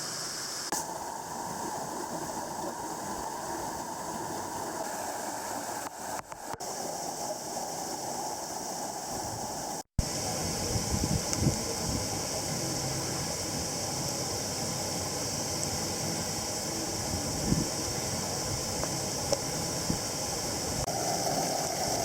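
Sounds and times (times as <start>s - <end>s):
steady rushing noise: 0.2s - 22.0s.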